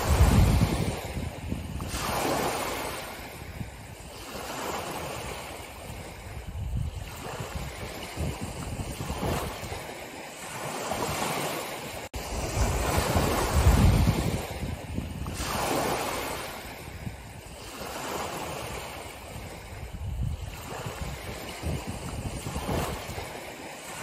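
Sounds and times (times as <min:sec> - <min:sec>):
small waves breaking on shore: 0:00.0 - 0:24.0.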